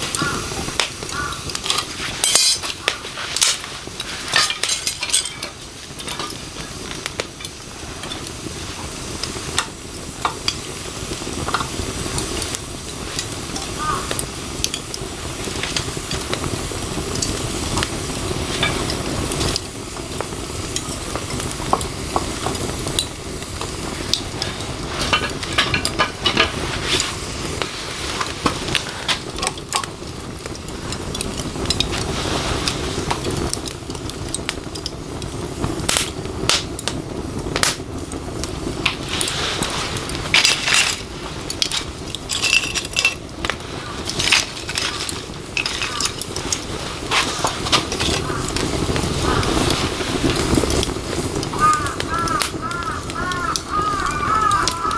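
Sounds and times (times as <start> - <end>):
fire crackling and hissing: 0.0 - 54.9.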